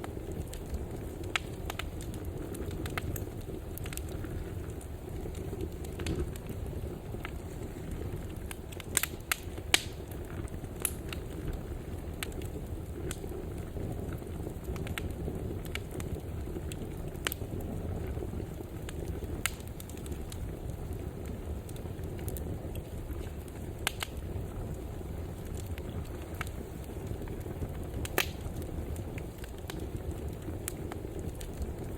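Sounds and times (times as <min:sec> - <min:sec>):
fire crackling and popping: 0:00.0 - 0:31.9
fire rushing: 0:00.0 - 0:31.9.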